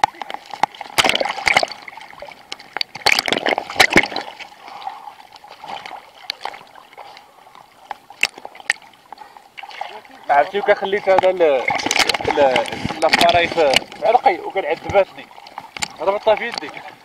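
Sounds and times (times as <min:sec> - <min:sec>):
water splashing and lapping: 0:00.0 - 0:17.0.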